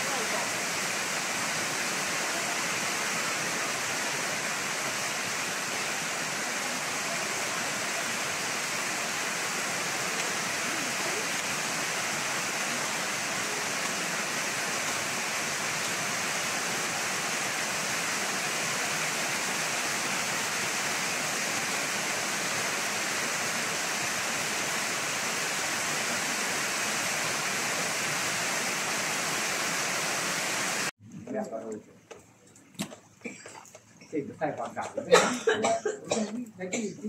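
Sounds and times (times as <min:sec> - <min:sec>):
rain falling steadily: 0:00.0 - 0:37.0.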